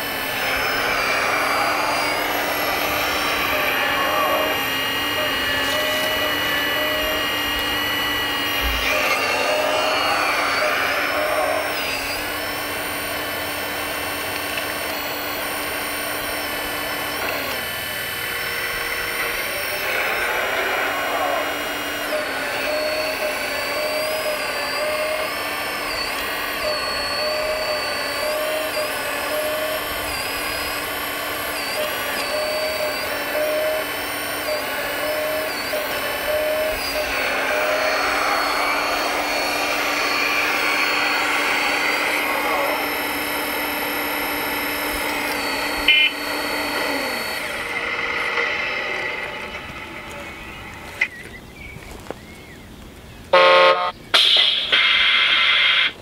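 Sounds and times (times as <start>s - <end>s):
electric hydraulic pump whining: 0.0s - 56.0s.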